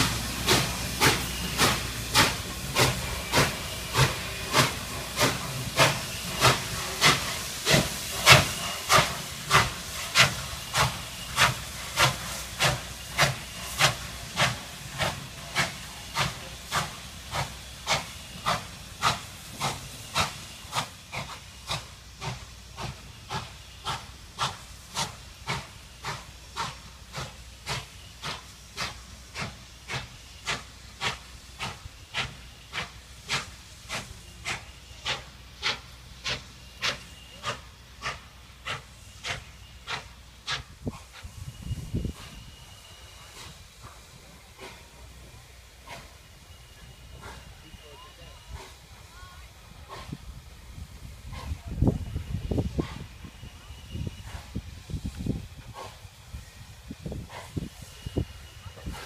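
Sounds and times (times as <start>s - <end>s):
steady steam hiss: 0.0s - 59.0s
steam locomotive chuffing: 0.0s - 59.0s.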